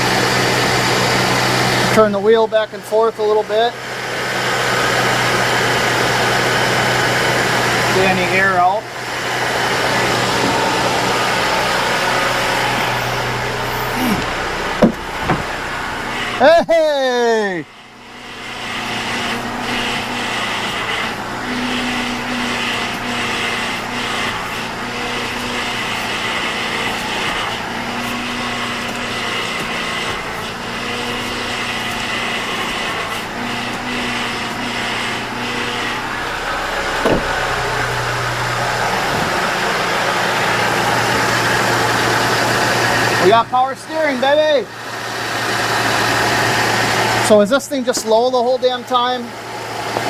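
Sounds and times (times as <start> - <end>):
car engine idling: 0.0 - 50.0
power steering pump whine: 0.0 - 50.0.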